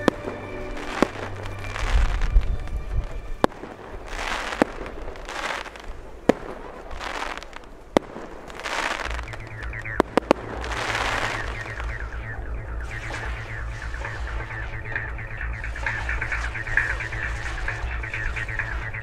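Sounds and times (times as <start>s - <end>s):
fireworks bangs: 0.0s - 19.0s
fireworks hiss: 0.0s - 19.0s.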